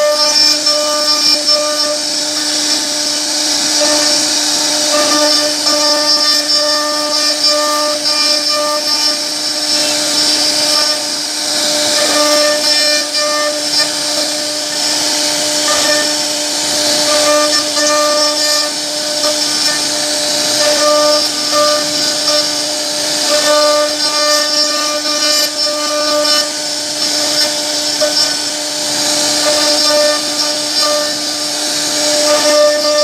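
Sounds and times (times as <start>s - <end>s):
router spindle whine: 0.0s - 33.0s.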